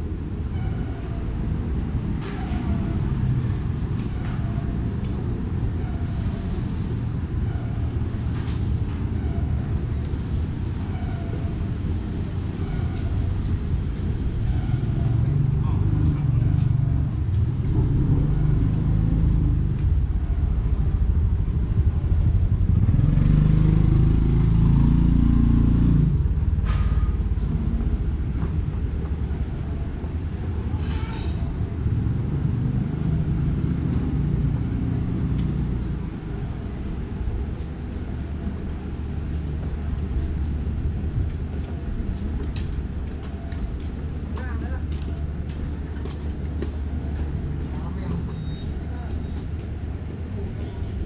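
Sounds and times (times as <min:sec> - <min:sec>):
vehicles and motorbikes passing: 0:00.0 - 0:51.0.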